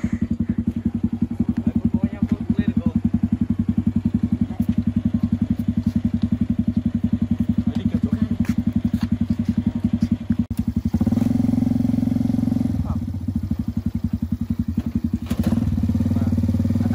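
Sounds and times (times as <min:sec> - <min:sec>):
small engine idling: 0:00.0 - 0:16.9.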